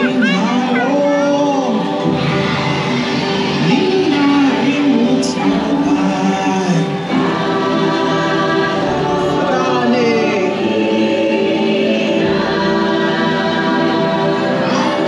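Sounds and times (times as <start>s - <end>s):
choir singing slow chant: 0.0s - 15.0s.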